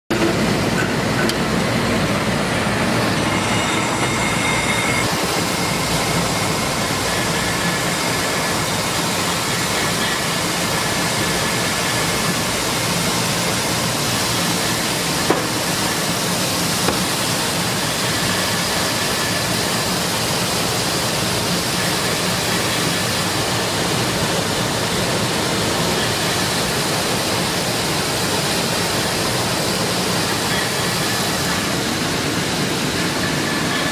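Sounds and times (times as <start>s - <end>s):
milling machine running: 0.1s - 33.9s.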